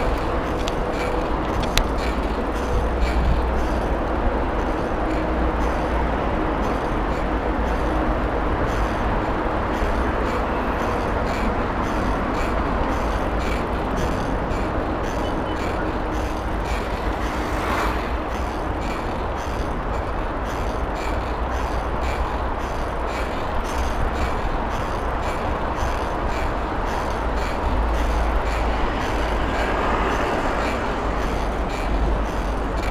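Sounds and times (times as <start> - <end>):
bicycle road noise: 0.0 - 32.9.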